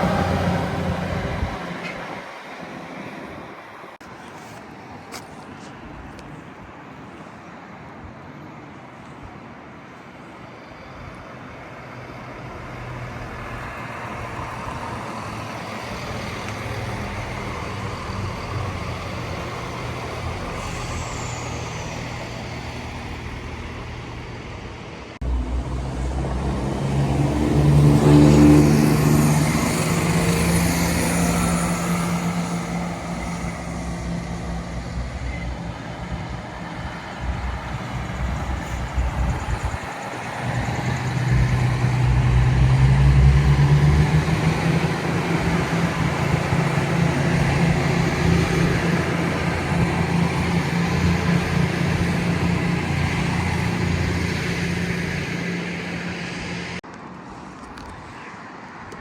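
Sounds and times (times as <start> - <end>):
diesel train engine drone: 0.0 - 5.0, 5.7 - 57.1.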